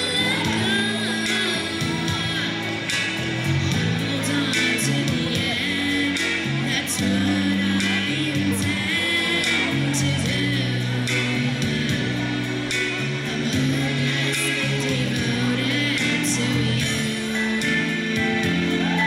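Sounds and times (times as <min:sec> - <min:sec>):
girl singing into microphone: 0:00.0 - 0:03.0, 0:03.6 - 0:12.3, 0:13.2 - 0:19.0
instrumental backing music: 0:00.0 - 0:19.0.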